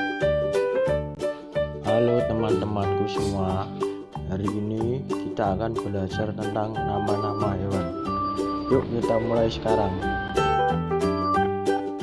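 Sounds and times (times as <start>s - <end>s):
rhythmic plucked string music: 0.0s - 12.0s.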